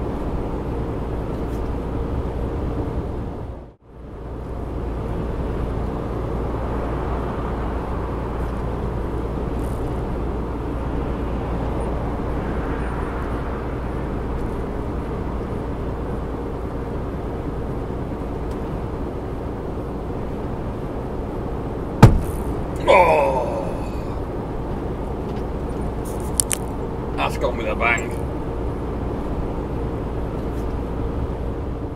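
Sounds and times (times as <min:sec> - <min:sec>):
lorry engine and road noise: 0:00.0 - 0:31.9.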